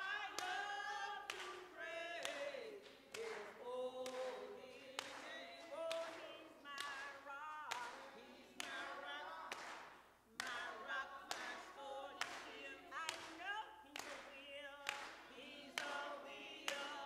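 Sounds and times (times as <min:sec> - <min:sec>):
hand claps on a steady beat: 0:00.0 - 0:17.0
women singing together: 0:00.0 - 0:17.0.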